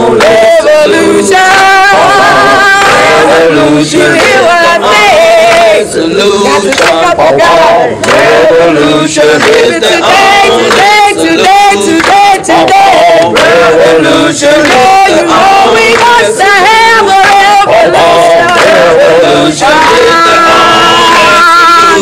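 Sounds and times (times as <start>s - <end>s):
crowd chanting in unison: 0.0s - 22.0s.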